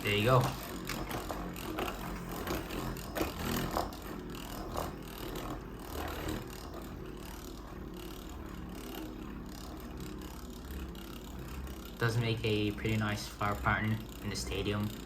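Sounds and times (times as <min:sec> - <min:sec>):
spinning top scraping whir: 0:00.0 - 0:15.0.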